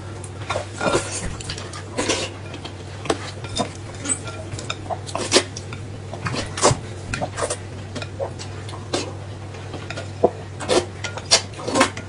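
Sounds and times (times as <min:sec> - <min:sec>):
utensils clinking on plates: 0:00.4 - 0:12.0.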